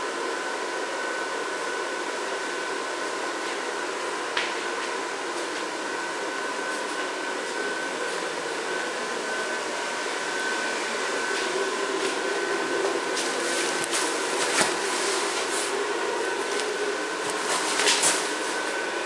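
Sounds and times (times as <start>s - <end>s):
electric blower fan whirring: 0.0s - 19.0s.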